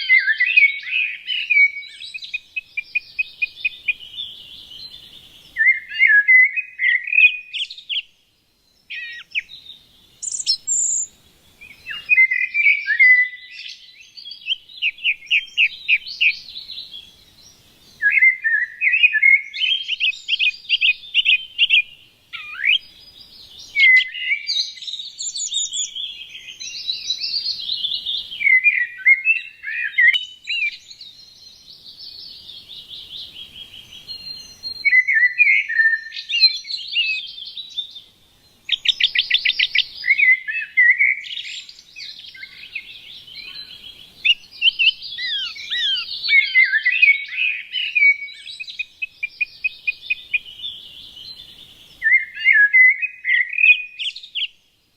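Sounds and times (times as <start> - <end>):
small songbirds chirping: 0.0 - 54.9.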